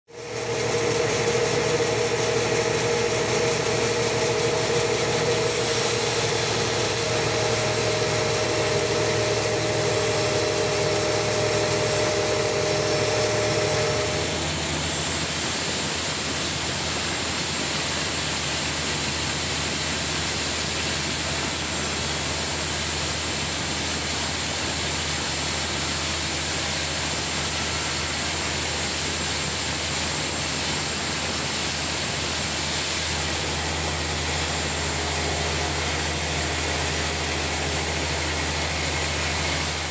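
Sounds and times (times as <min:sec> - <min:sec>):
steady whine: 0:00.1 - 0:17.1, 0:20.9 - 0:39.9
band sawmill cutting log: 0:00.1 - 0:39.9.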